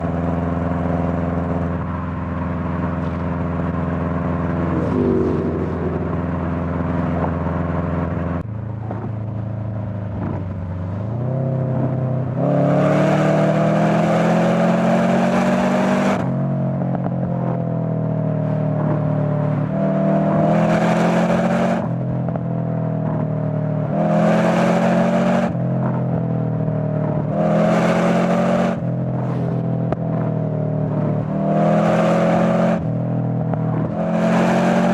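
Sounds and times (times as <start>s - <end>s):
car engine revving: 0.3s - 18.2s, 18.8s - 34.9s.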